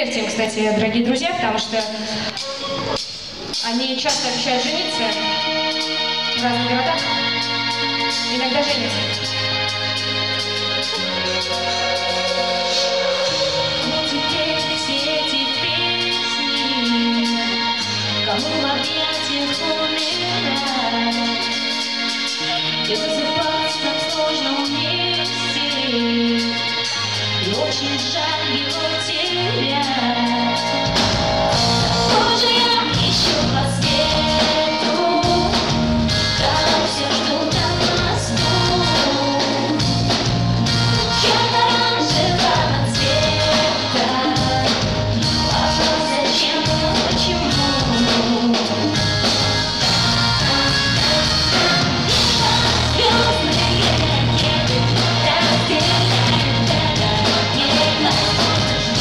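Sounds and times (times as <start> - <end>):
live pop-rock band playing: 0.0 - 59.0
woman singing: 3.6 - 7.4, 8.1 - 9.3, 10.9 - 49.1, 49.8 - 59.0.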